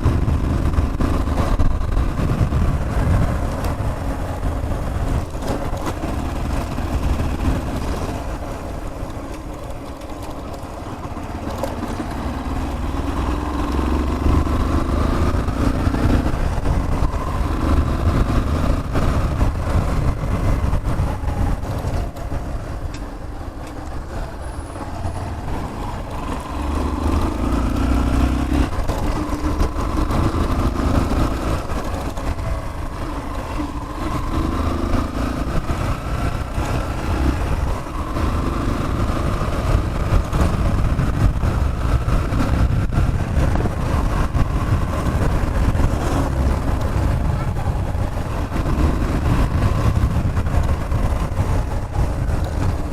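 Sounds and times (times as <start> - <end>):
motorcycle engine accelerating: 0.0 - 52.9
wind rumble: 0.0 - 52.9.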